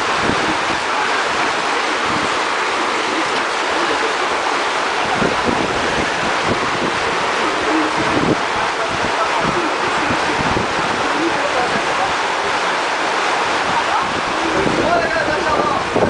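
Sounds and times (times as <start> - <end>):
water rushing and churning: 0.0 - 16.0.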